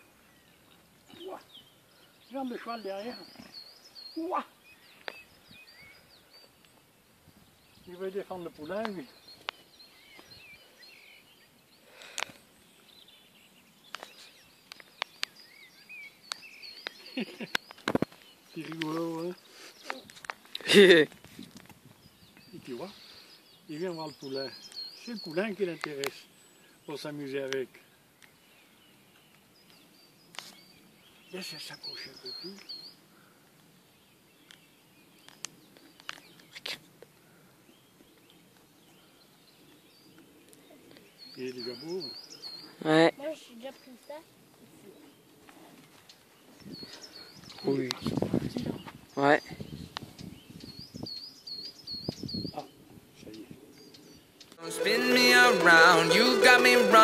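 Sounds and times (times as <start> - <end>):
small birds chirping and singing: 0.0 - 57.0.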